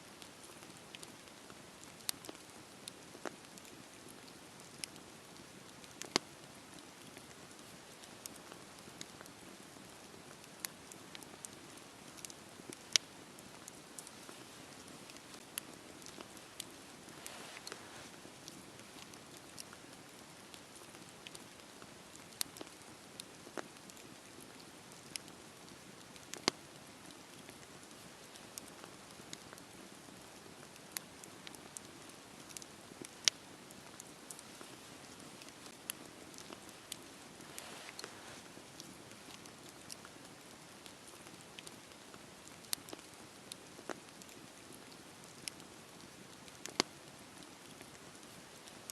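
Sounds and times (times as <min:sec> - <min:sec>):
campfire crackling and popping: 0:00.1 - 0:48.9.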